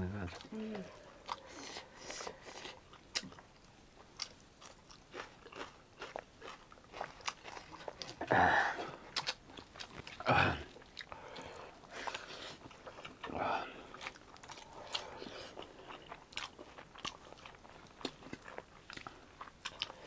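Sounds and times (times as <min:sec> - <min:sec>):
person chewing: 0:00.3 - 0:20.0.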